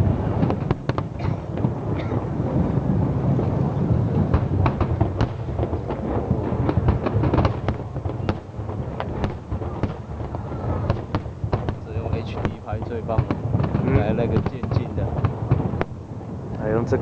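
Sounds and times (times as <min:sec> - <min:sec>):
fireworks booming: 0:00.0 - 0:17.0
fireworks sharp cracks: 0:00.0 - 0:17.0.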